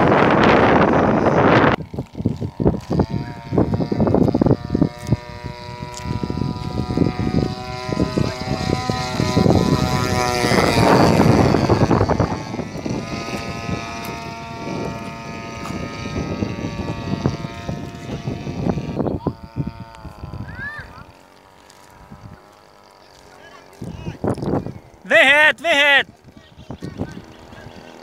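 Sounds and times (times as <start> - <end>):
light plane engine droning: 0.0 - 28.0.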